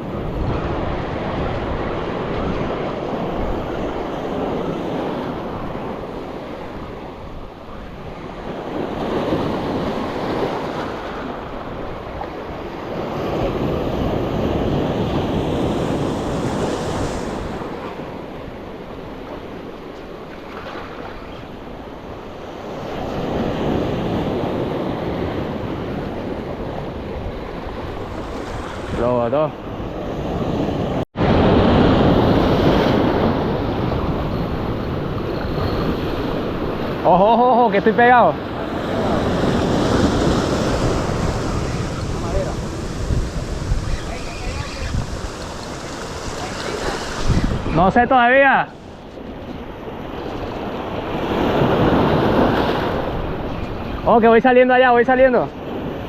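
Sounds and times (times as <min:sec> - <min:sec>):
wind buffeting microphone: 0:00.0 - 0:37.1, 0:37.8 - 0:54.1
sea surf breaking: 0:00.0 - 0:56.0.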